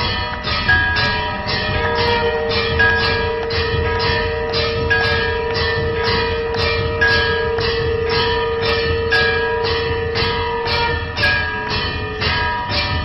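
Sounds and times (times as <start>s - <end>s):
bells and gongs struck: 0.0s - 13.0s
long held tone: 0.7s - 12.3s.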